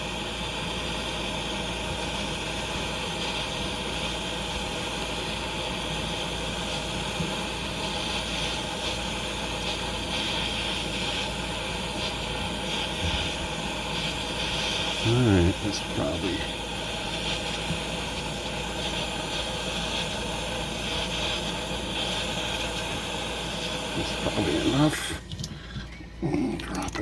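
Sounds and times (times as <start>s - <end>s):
propane torch hissing: 0.0s - 25.7s.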